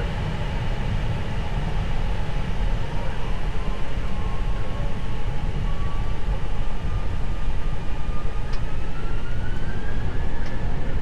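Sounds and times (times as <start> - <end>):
deep steady rumble: 0.0 - 10.9.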